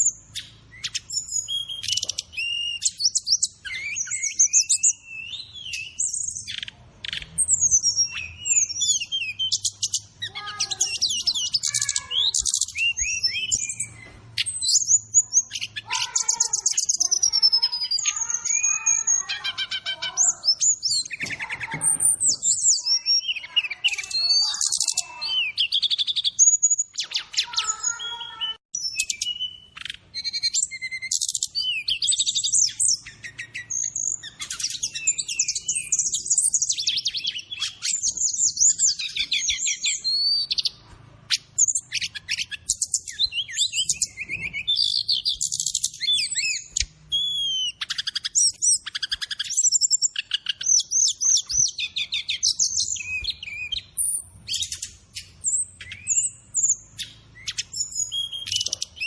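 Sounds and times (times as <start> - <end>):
sunbird singing: 0.0 - 59.0.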